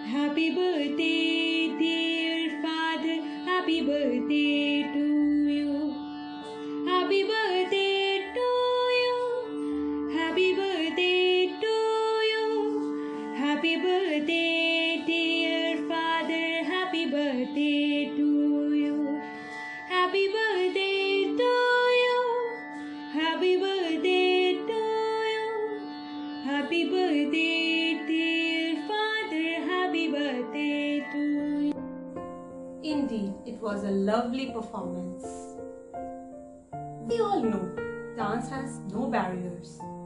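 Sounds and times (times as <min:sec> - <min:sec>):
woman singing: 0:00.0 - 0:06.0, 0:06.8 - 0:25.8, 0:26.4 - 0:31.8, 0:32.8 - 0:35.5, 0:37.0 - 0:39.8
instrumental backing: 0:00.0 - 0:40.0.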